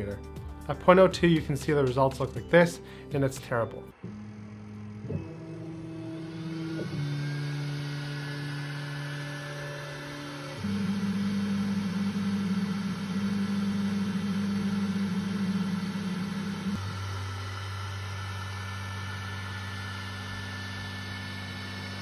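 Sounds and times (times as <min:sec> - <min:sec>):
rough stuttering motor buzz: 0:04.0 - 0:22.0
stepper motors whining: 0:04.0 - 0:22.0.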